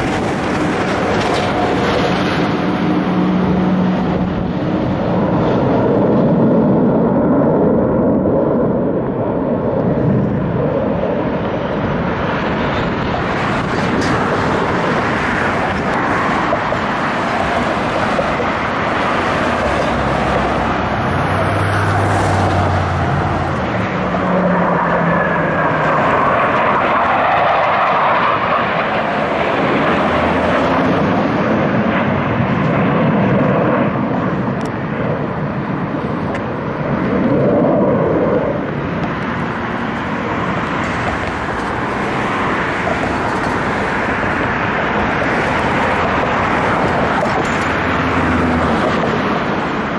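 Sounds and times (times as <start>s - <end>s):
jets flying over: 0.0s - 49.9s.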